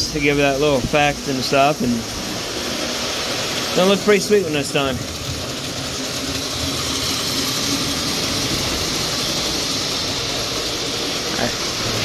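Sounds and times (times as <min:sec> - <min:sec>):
model train whirring and rumbling: 0:00.0 - 0:12.0.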